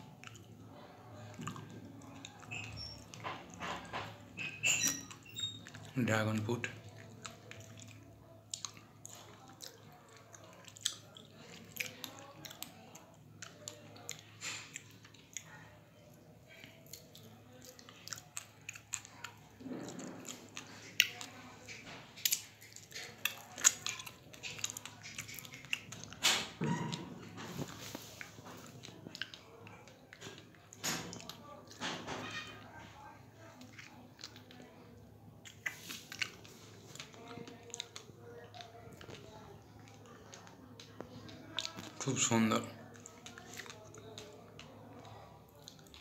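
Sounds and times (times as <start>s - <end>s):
person chewing wetly: 0.0s - 46.0s.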